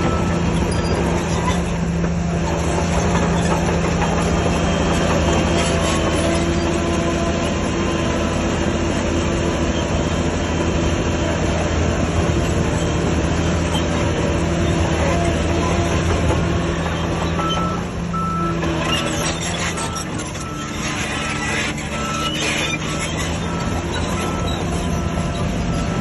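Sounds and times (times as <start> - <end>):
bulldozer diesel engine: 0.0 - 26.0
steel tracks clattering and squealing: 0.0 - 26.0.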